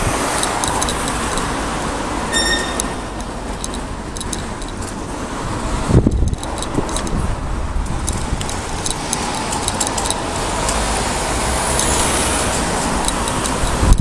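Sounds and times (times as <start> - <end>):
wind buffeting microphone: 0.0 - 2.2, 3.0 - 14.0
bicycle tyres on road: 0.0 - 14.0.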